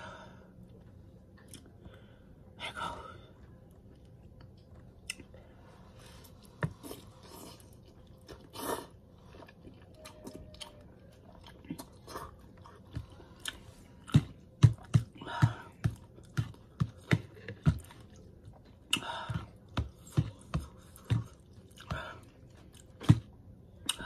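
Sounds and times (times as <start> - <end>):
person chewing noodles: 0.6 - 1.9, 3.7 - 5.4, 6.1 - 24.0.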